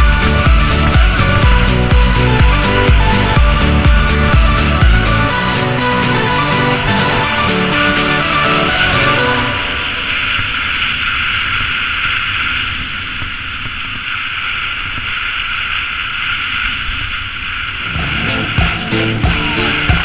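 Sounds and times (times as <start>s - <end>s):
wind rushing over microphone: 0.0s - 19.2s.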